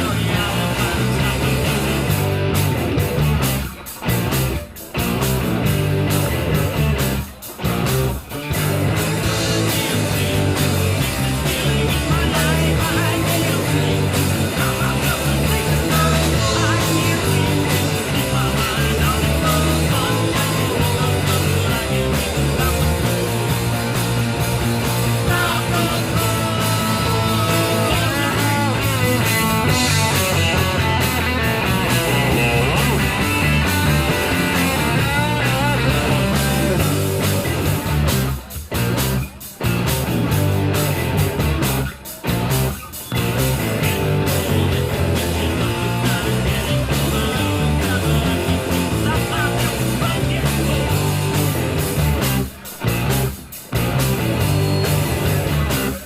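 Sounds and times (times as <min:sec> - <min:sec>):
bass guitar: 0:00.0 - 0:56.0
drums: 0:00.0 - 0:56.0
electric guitars: 0:00.0 - 0:56.0.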